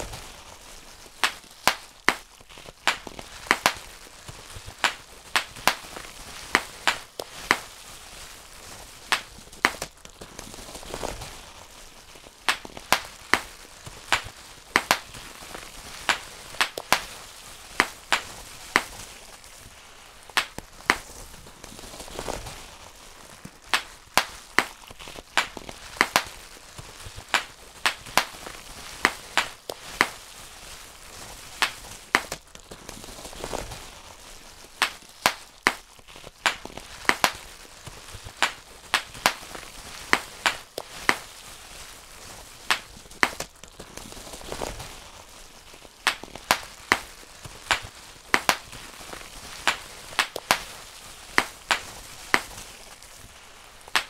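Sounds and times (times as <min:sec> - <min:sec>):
bubble wrap popping: 0:00.0 - 0:54.0.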